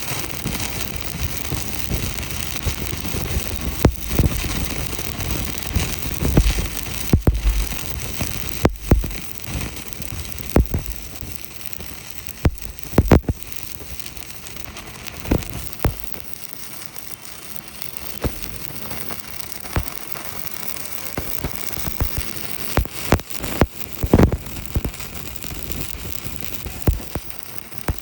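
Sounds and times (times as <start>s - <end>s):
spatter pops: 0.0s - 28.0s
welding arc crackling: 0.0s - 28.0s.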